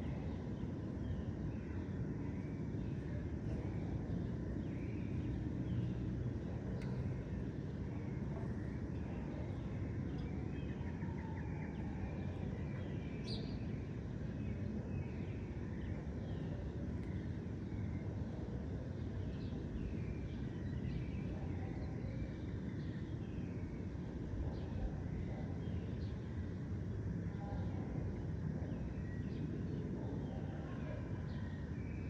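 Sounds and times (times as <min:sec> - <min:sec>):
distant city traffic rumble: 0:00.0 - 0:32.0
small birds chirping: 0:00.0 - 0:32.0.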